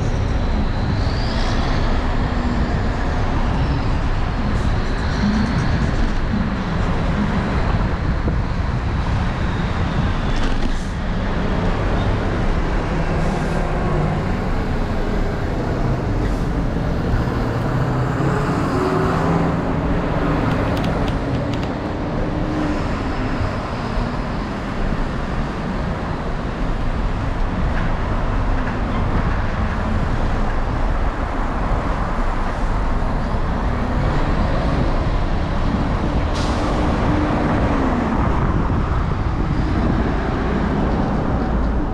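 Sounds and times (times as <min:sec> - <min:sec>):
road noise rumble: 0:00.0 - 0:41.9
traffic passing: 0:00.0 - 0:41.9.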